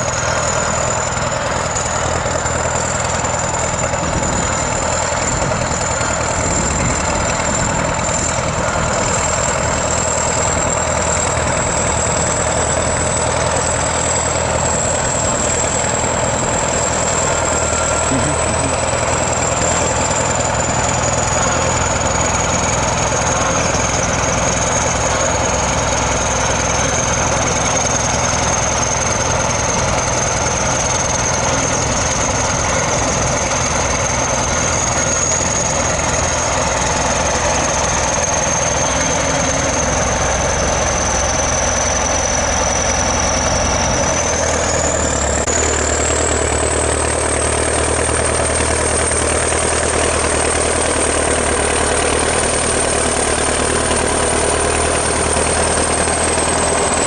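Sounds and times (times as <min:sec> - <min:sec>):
bulldozer diesel engine running: 0:00.0 - 0:57.0
high whine: 0:00.0 - 0:57.0.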